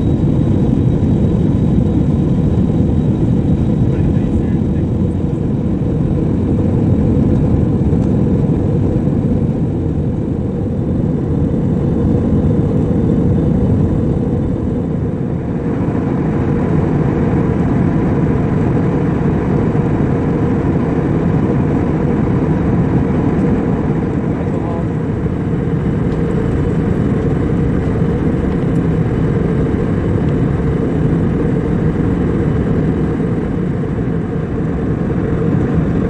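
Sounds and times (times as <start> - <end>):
jet cabin roar: 0.0 - 36.0.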